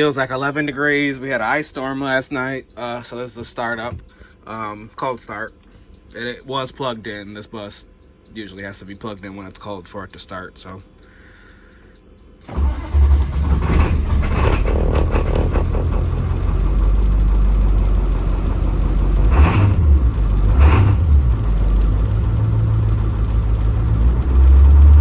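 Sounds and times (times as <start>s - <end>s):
diesel bus engine idling: 0.0s - 9.7s, 10.3s - 25.0s.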